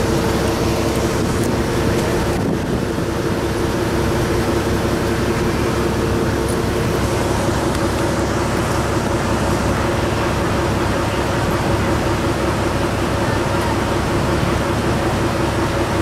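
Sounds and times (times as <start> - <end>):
ferry engine rumbling: 0.0 - 16.0.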